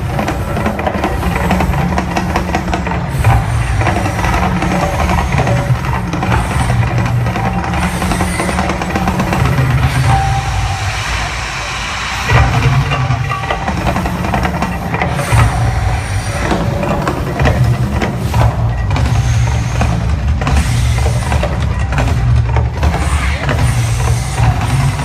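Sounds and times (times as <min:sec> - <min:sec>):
loud deep rumble: 0:00.0 - 0:25.0
show music: 0:00.0 - 0:25.0.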